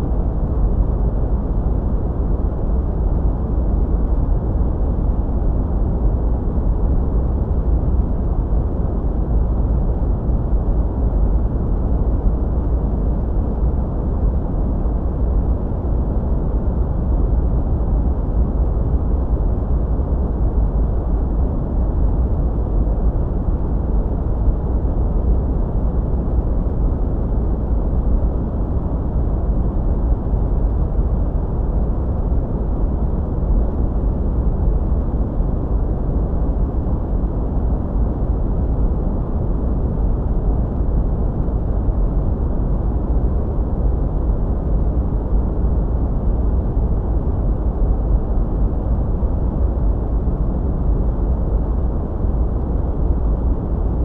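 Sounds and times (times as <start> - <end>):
deep white noise rumble: 0.0 - 54.0.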